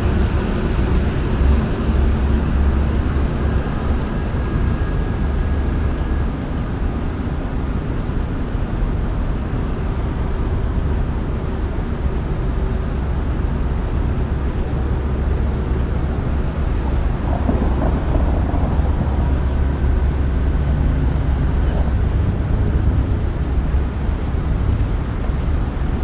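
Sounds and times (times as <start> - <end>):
city traffic rumble: 0.0 - 26.0
wind buffeting microphone: 0.0 - 26.0.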